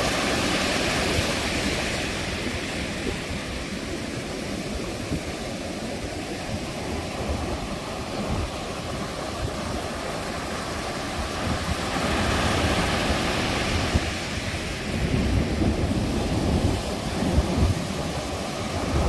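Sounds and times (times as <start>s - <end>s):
ocean surf roaring: 0.0s - 19.0s.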